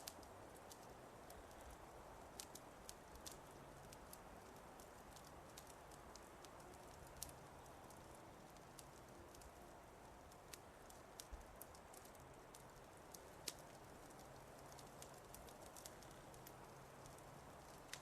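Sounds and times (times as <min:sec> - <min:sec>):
faint wood fire crackling: 0:00.0 - 0:18.0.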